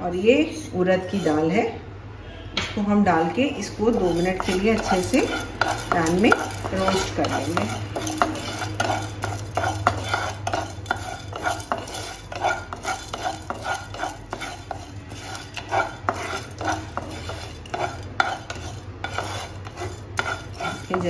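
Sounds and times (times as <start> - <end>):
wooden spatula scraping a pan: 0.0 - 1.6, 3.5 - 21.0
steady low hum: 0.0 - 21.0
dry lentils rattling: 3.9 - 21.0.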